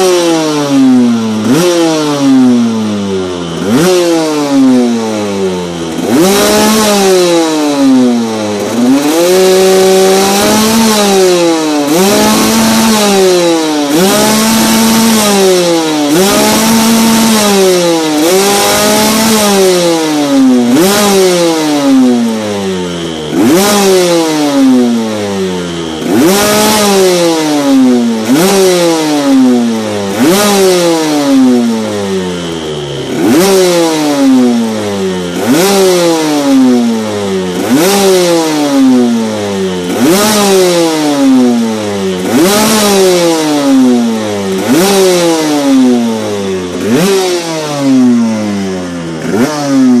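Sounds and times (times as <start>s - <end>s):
two-stroke motorcycle throttle blips: 0.0s - 50.0s.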